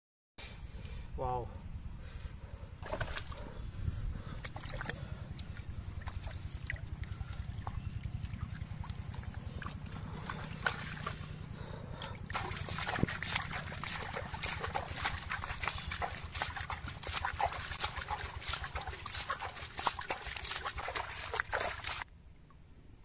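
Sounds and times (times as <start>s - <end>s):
steady low hum: 2.5s - 22.0s
hands sloshing in mud: 2.8s - 3.6s, 4.2s - 22.0s.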